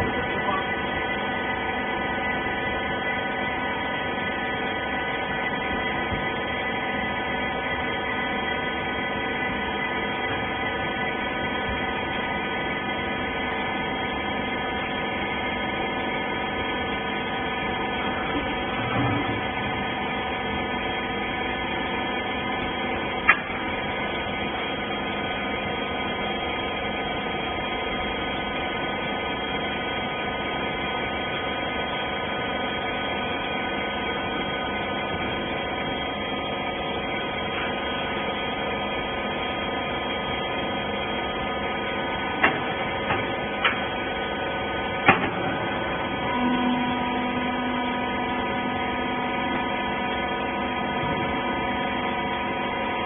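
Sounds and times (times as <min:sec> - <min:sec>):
hydraulic motor and pump hum: 0:00.0 - 0:53.0.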